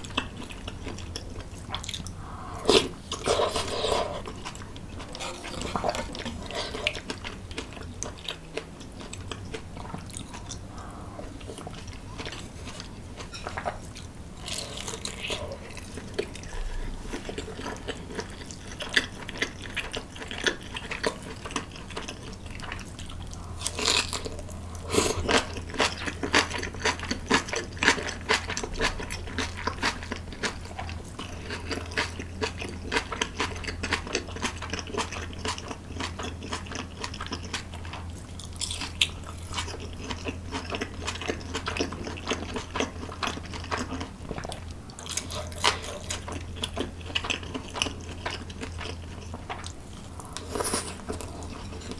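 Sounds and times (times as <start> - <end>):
chewing and crunching food: 0.0 - 51.9
low steady hum: 0.0 - 51.9.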